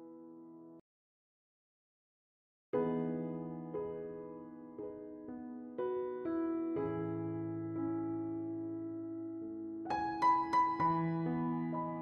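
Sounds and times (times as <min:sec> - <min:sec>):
slow piano music: 0:00.0 - 0:00.8, 0:02.8 - 0:12.0.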